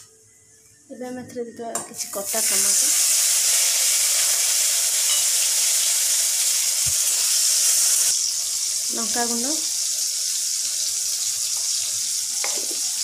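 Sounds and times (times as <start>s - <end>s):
tomatoes sizzling in hot oil: 2.0s - 13.0s.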